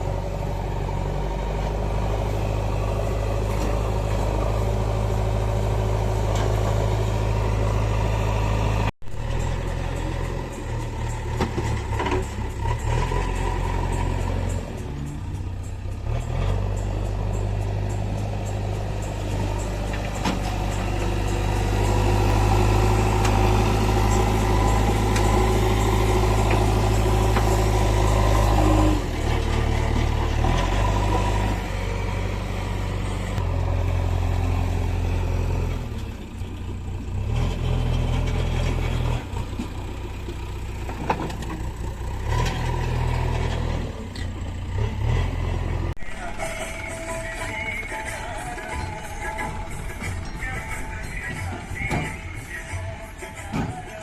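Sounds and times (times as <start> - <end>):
heavy vehicle engine running: 0.0 - 54.0.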